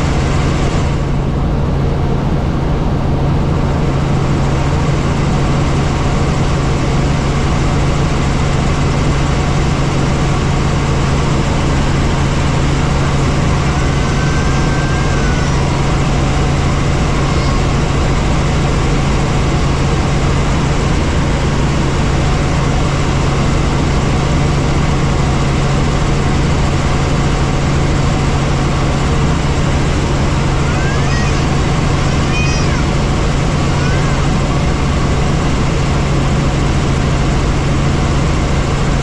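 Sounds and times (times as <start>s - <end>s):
helicopter engine and rotors droning: 0.0s - 39.0s.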